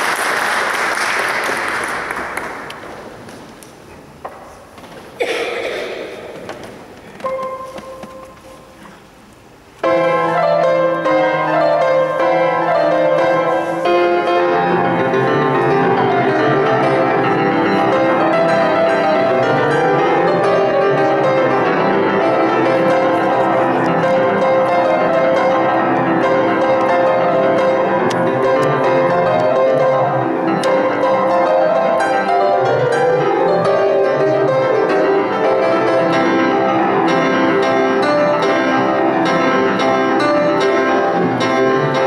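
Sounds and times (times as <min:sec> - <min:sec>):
grand piano playing: 0:05.2 - 0:42.0.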